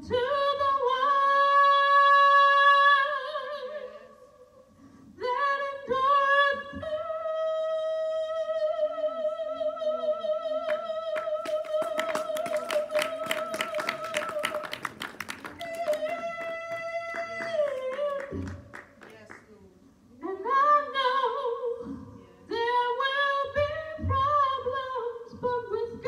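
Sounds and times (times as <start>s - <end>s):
woman singing unaccompanied: 0.0s - 4.4s, 5.2s - 14.8s, 15.5s - 18.8s, 20.1s - 26.0s.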